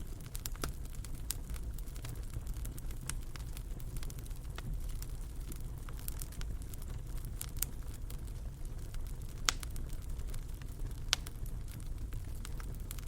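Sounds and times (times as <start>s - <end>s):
fire pops and snaps: 0.0s - 13.0s
wood fire crackling: 0.0s - 13.0s.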